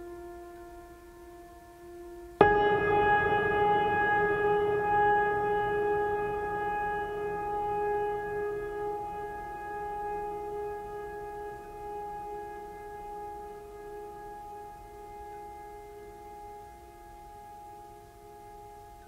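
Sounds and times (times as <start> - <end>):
droning music note: 0.0 - 19.0.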